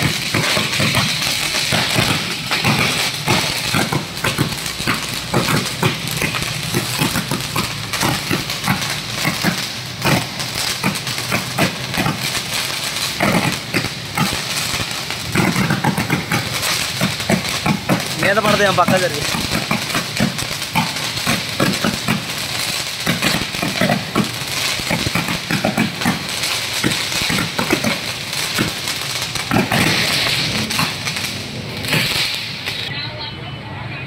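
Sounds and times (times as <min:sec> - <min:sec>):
firework hissing: 0:00.0 - 0:33.2
firework crackling: 0:00.0 - 0:34.0.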